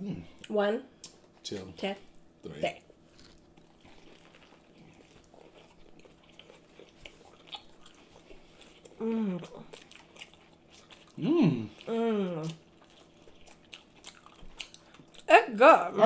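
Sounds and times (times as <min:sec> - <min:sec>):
people chewing crunchy food: 0:00.4 - 0:15.3.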